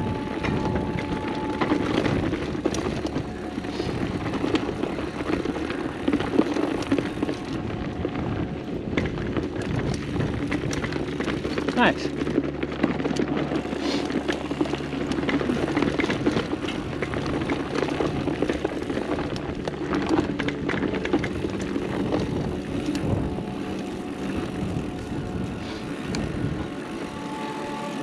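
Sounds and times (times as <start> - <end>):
bike knocks and rattles: 0.0 - 27.1
bike tyres rumbling on dirt: 0.0 - 28.0.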